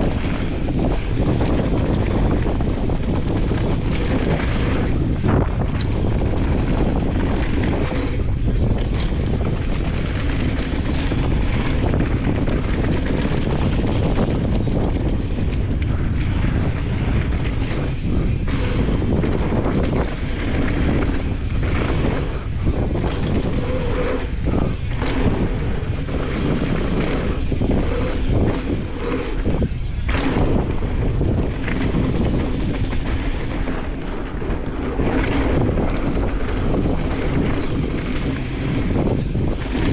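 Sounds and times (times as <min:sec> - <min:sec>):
bike clicks and rattles: 0:00.0 - 0:39.9
tyres rumbling on dirt: 0:00.0 - 0:39.9
wind buffeting microphone: 0:00.0 - 0:39.9.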